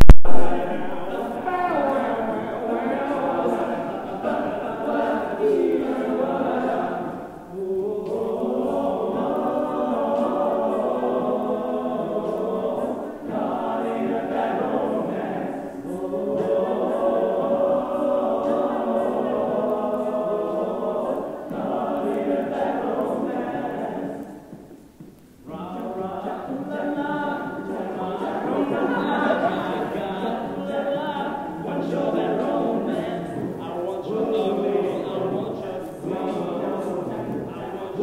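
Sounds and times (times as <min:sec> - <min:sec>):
male a cappella group singing: 0:00.0 - 0:38.0.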